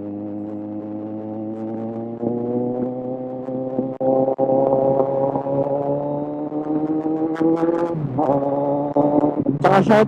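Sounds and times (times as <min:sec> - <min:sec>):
motorcycle engine droning: 0:00.0 - 0:10.0.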